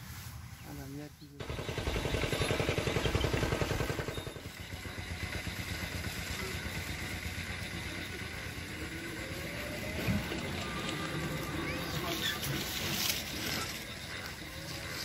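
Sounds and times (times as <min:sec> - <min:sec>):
outdoor background noise: 0:00.0 - 0:15.0
vehicle engine running: 0:01.4 - 0:15.0.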